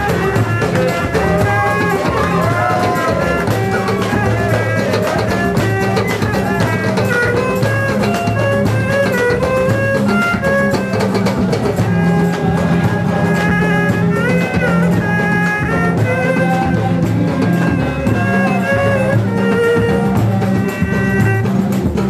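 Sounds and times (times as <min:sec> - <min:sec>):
loud music with drums: 0:00.0 - 0:22.0.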